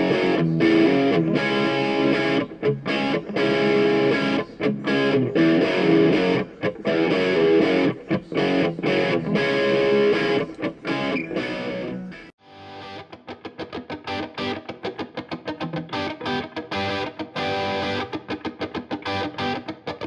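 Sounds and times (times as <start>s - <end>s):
guitar music in choppy rhythm: 0.0s - 20.0s.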